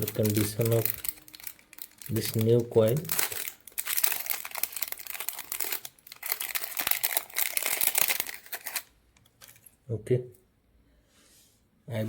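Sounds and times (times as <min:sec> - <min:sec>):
wrapping crinkling and crackling: 0:00.0 - 0:09.8.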